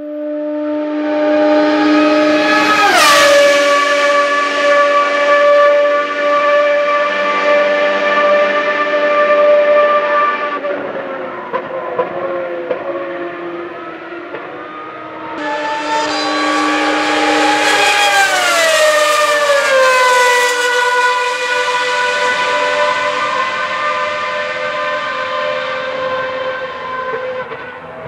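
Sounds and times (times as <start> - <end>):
racing car engine screaming past: 0.5 - 28.0.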